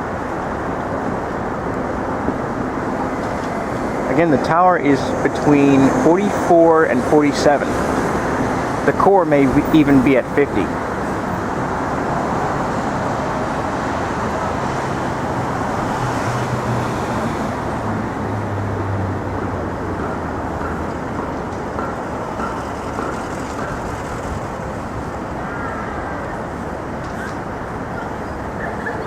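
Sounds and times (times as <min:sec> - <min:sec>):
cars passing: 0:00.0 - 0:29.0
heavy vehicle engine drone: 0:00.0 - 0:29.0.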